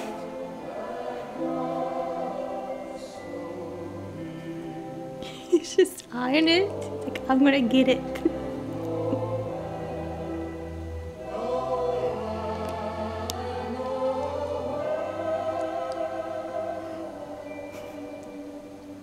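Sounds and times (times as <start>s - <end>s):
choir singing long chords: 0.0s - 5.5s, 6.6s - 19.0s.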